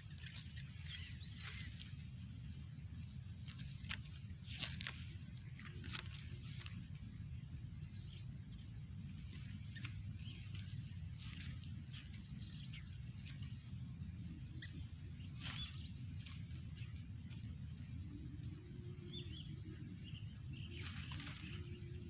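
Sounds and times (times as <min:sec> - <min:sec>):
faint bird chirps: 0:00.0 - 0:22.0
outdoor background rumble: 0:00.0 - 0:22.0.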